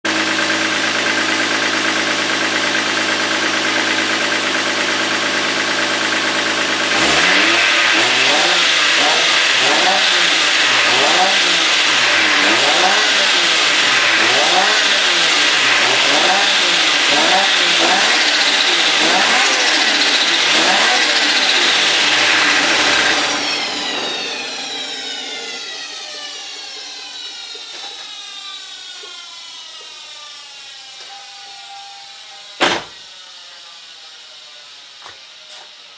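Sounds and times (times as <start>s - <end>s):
car engine idling and revving: 0.1s - 30.7s
turbo whine: 0.2s - 35.9s.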